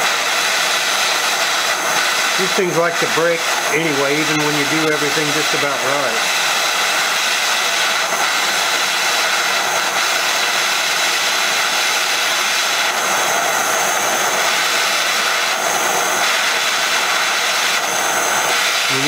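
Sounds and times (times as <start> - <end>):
gas torch hissing: 0.0 - 19.0.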